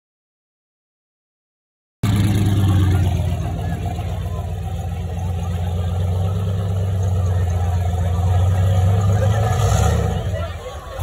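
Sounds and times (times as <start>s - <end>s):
truck engine running loud: 2.0s - 11.0s.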